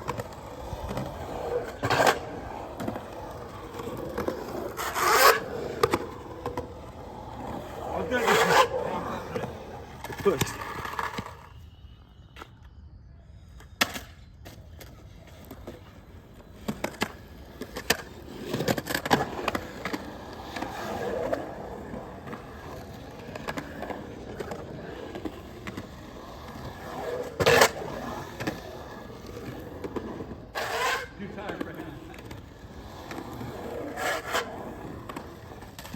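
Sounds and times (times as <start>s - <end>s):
skateboard clacking: 0.0s - 11.5s, 13.6s - 35.9s
skateboard wheels rumbling on concrete: 0.0s - 12.8s, 13.4s - 35.9s.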